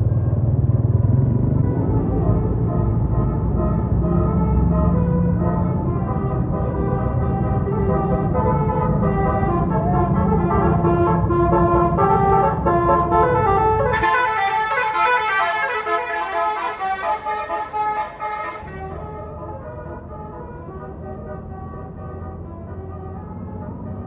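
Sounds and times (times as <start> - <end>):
bus engine rumble: 0.0 - 24.0
multi-tone air horn melody: 1.6 - 23.7.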